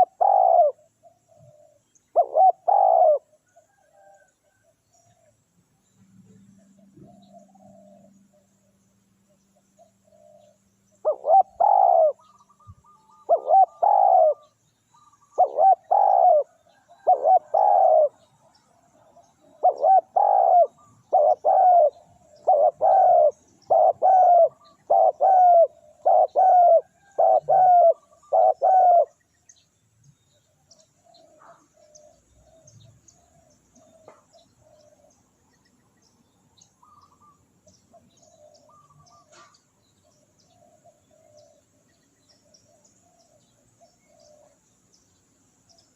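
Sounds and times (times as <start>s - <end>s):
dove cooing: 0.0s - 5.3s, 6.6s - 8.5s, 9.8s - 29.2s, 31.0s - 35.2s, 36.8s - 41.8s, 42.4s - 44.6s.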